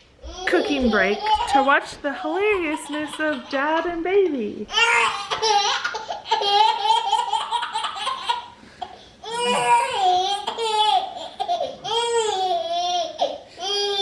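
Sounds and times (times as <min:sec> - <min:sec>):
baby laughing: 0:00.4 - 0:03.6, 0:04.7 - 0:14.0.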